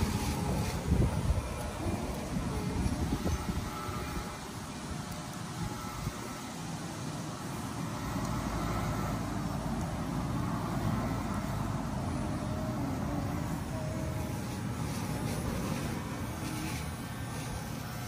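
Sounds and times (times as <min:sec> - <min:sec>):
electric dog clippers humming: 0:00.0 - 0:06.7, 0:07.4 - 0:18.0.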